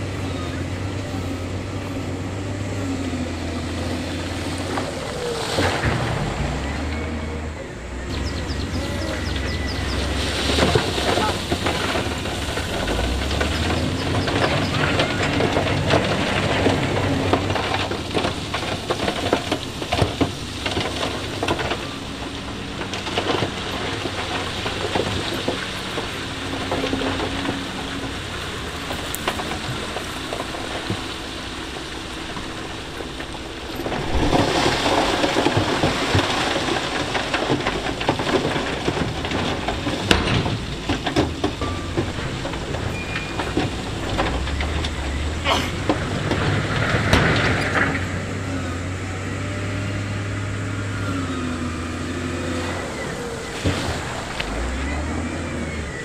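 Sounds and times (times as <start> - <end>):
diesel engine running low: 0.0 - 56.0
stone and gravel grinding: 8.0 - 56.0.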